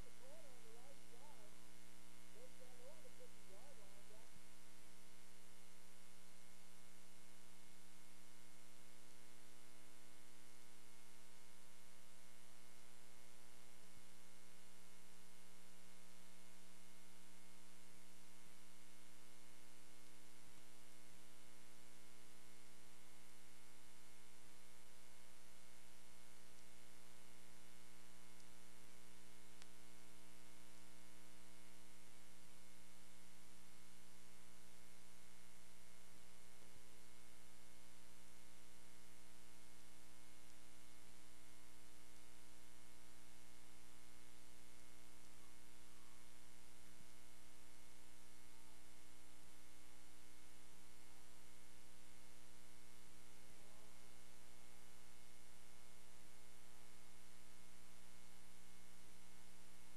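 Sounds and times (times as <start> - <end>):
electrical mains hum with hiss: 0.0 - 59.9.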